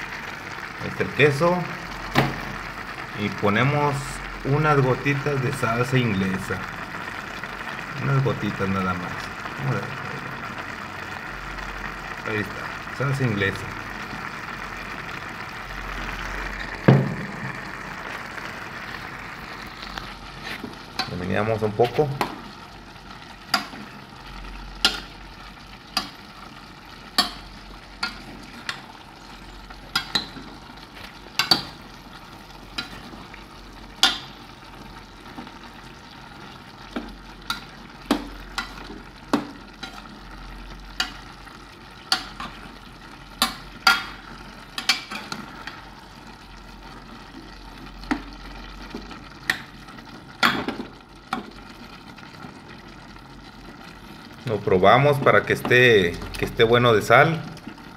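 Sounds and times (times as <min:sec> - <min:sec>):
stew bubbling: 0:00.0 - 0:57.9.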